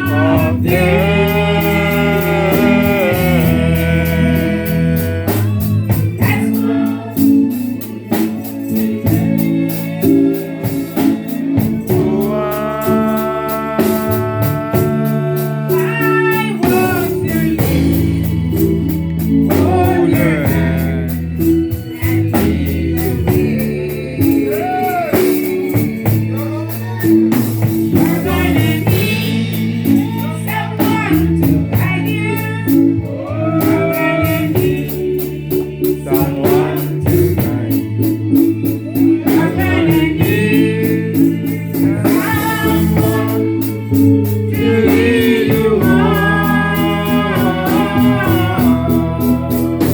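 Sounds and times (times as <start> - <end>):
band playing gospel music: 0.0 - 49.9
person singing: 0.0 - 49.9.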